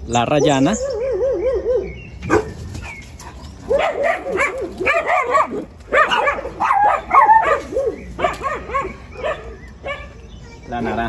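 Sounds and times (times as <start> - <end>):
dogs yipping and whining: 0.1 - 11.0.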